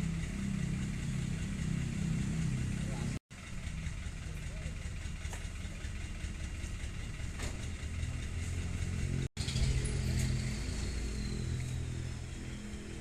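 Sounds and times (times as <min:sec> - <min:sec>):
dump truck engine droning: 0:00.0 - 0:13.0.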